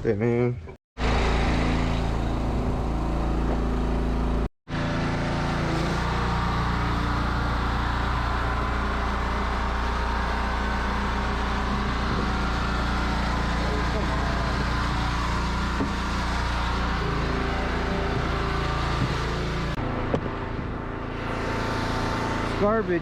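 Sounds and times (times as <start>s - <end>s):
engine humming: 1.0s - 23.0s.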